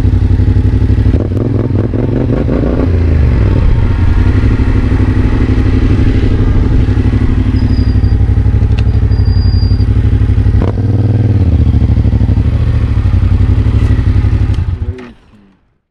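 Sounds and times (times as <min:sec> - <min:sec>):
motorcycle engine running: 0:00.0 - 0:15.3.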